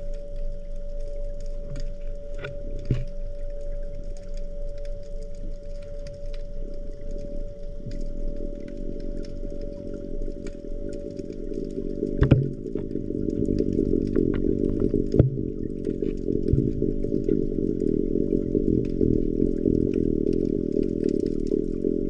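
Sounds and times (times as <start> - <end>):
continuous hum: 0.0 - 22.0
faint ticks: 0.0 - 22.0
underwater low rumble: 0.0 - 22.0.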